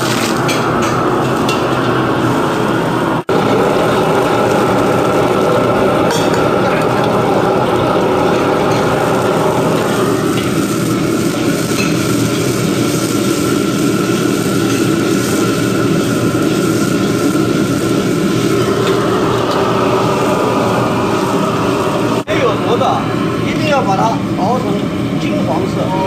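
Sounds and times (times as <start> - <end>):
fish sizzling in hot oil: 0.0 - 23.0
gas burner rushing: 0.0 - 26.0.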